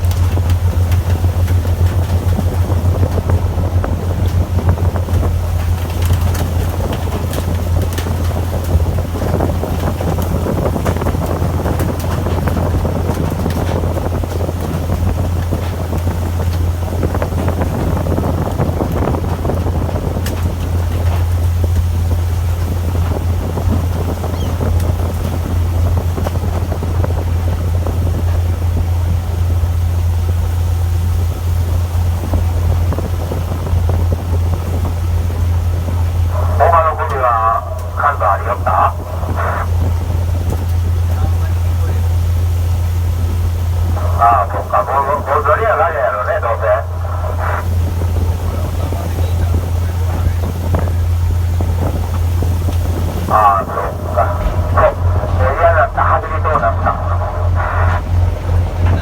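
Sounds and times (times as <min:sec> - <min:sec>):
boat engine droning: 0:00.0 - 0:59.0
water noise: 0:00.0 - 0:59.0
wind: 0:00.0 - 0:59.0.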